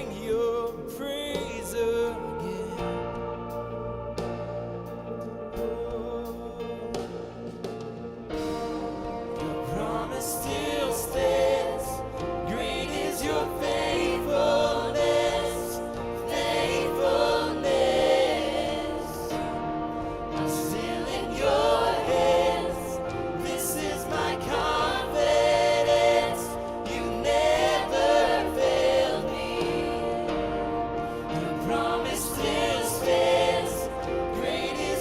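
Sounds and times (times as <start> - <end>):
choir singing: 0.0 - 35.0
sustained instrumental chords: 1.8 - 35.0.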